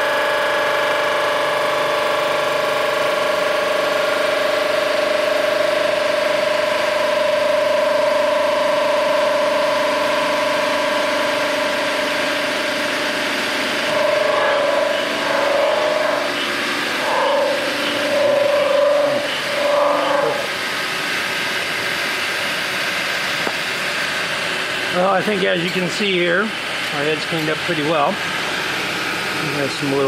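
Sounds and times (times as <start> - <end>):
resurfacing machine whining: 0.0 - 30.0.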